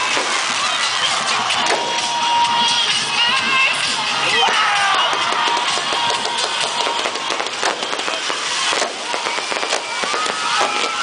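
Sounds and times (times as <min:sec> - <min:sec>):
fireworks crackling pops and bangs: 0:00.0 - 0:11.0.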